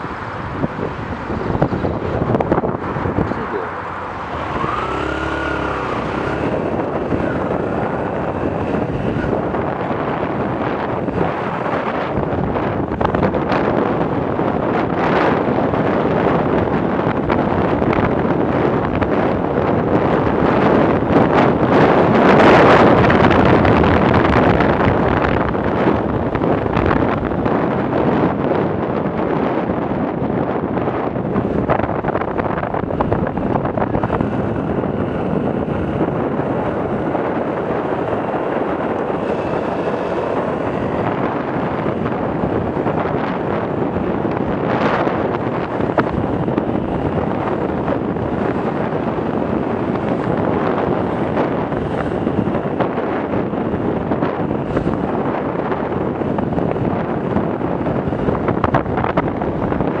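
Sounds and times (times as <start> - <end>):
motorcycle engine: 0.0 - 60.0
road noise: 0.0 - 60.0
wind rushing on microphone: 0.0 - 60.0.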